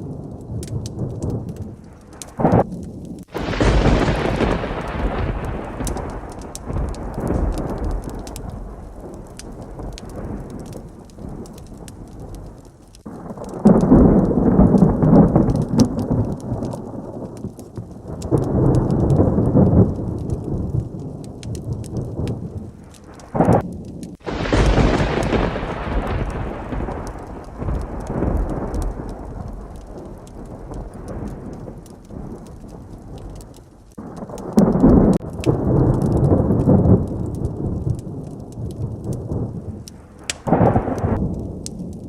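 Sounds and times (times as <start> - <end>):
heavy rain: 0.0 - 42.0
loud close thunderclap: 0.0 - 42.0
thunder rolling: 0.0 - 42.0.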